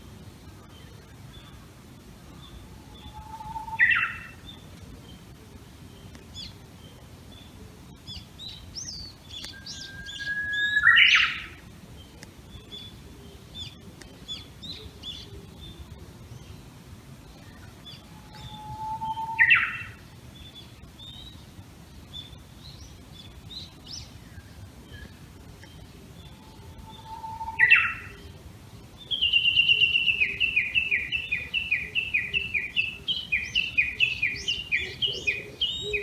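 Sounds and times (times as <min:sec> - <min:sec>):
small birds chirping faintly: 0:00.0 - 0:36.0
bush warbler singing: 0:00.1 - 0:36.0.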